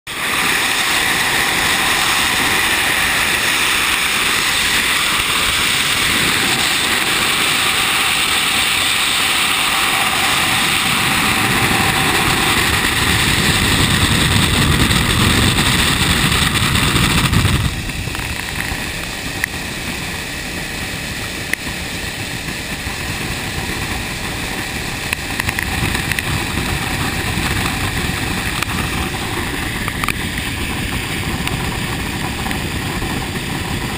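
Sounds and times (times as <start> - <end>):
motorcycle engine: 0.1 - 33.9
road noise: 0.1 - 33.9
wind rushing on microphone: 0.1 - 33.9.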